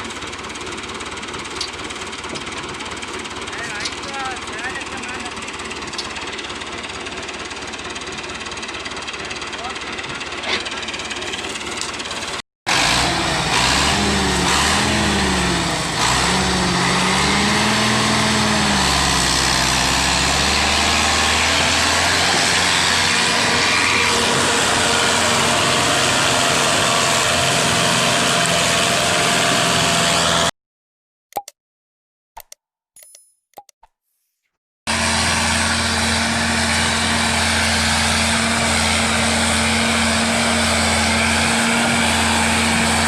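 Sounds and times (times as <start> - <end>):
tractor diesel engine under load: 0.0 - 30.5, 34.9 - 43.0.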